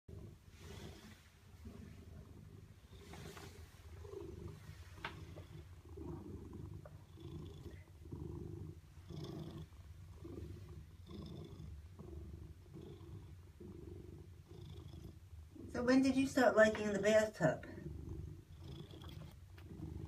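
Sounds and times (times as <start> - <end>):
cat purring: 0.1 - 20.0.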